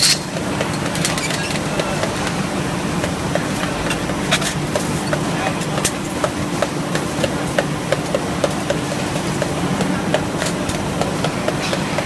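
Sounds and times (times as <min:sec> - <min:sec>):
workshop machine hum: 0:00.0 - 0:12.0.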